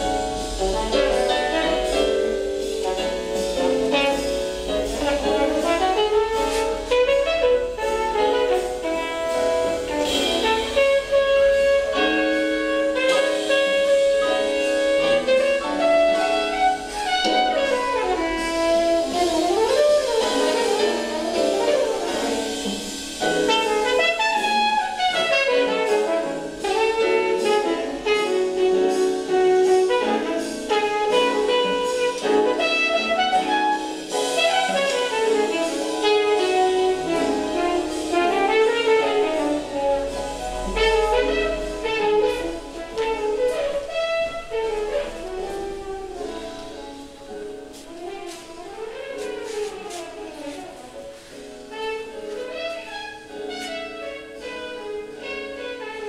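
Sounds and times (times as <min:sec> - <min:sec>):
instrumental jazz music: 0:00.0 - 0:56.0.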